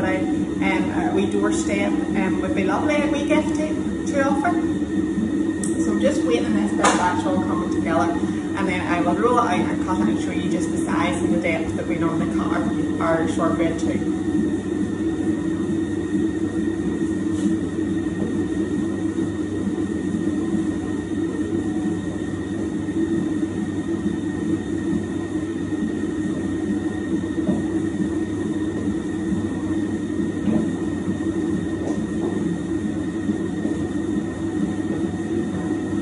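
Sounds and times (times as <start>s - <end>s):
mixer churning dough: 0.0s - 36.0s
mixer motor hum: 0.0s - 36.0s.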